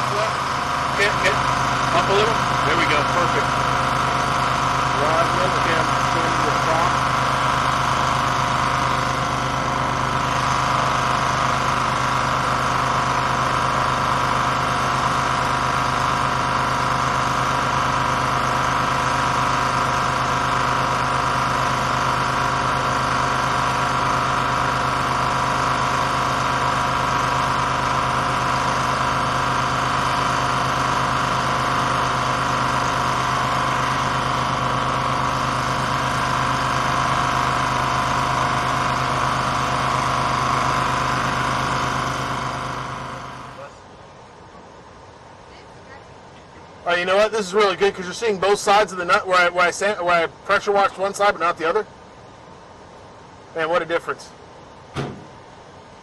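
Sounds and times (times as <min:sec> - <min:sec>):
high-pressure pump droning: 0:00.0 - 0:56.0.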